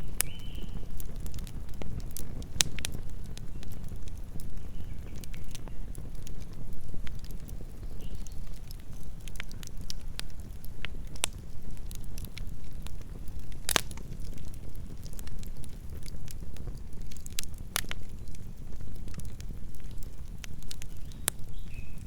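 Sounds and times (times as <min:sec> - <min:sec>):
burning wood crackling and popping: 0:00.0 - 0:22.0
campfire burning: 0:00.0 - 0:22.0.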